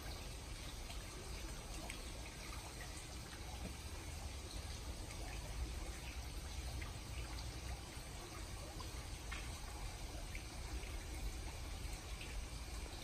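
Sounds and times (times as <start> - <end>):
aquarium water trickling: 0.0 - 13.0.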